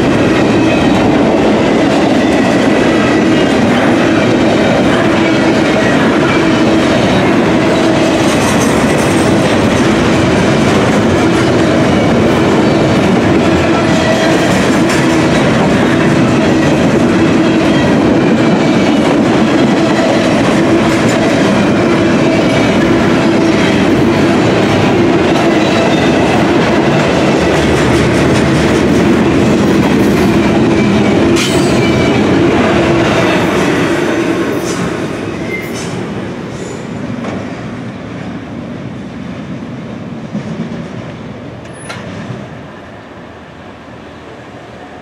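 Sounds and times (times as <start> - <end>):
train wheels clattering on track: 0.0 - 38.4, 39.5 - 42.6.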